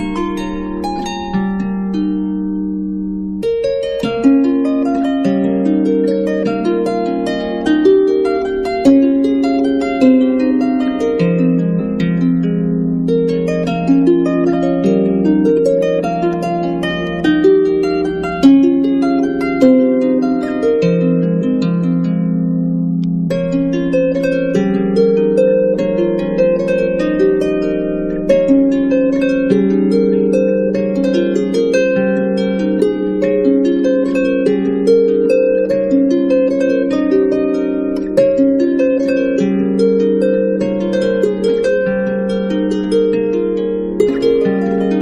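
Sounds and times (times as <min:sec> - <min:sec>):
harp-like plucked string music: 0:00.0 - 0:45.0.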